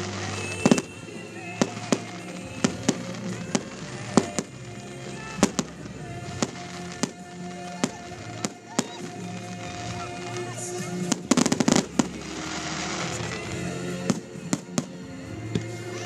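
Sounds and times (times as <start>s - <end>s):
fireworks bangs and cracks: 0.0s - 15.8s
music playing: 0.0s - 16.0s.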